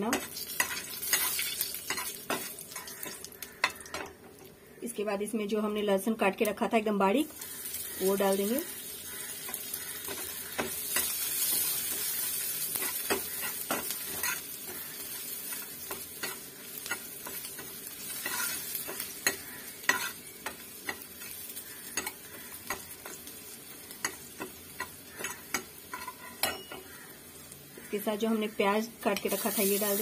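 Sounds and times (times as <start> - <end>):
garlic sizzling in oil: 0.0 - 5.0, 5.6 - 30.0.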